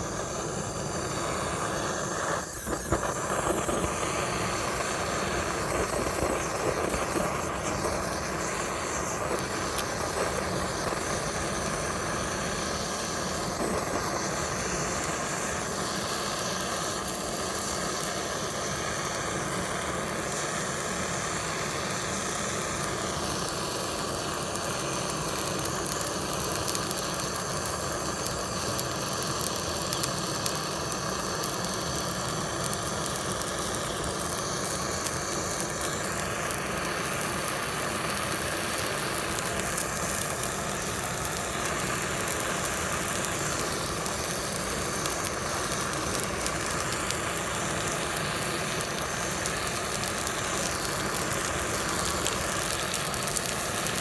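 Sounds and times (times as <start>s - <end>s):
gas torch flame hissing: 0.0s - 54.0s.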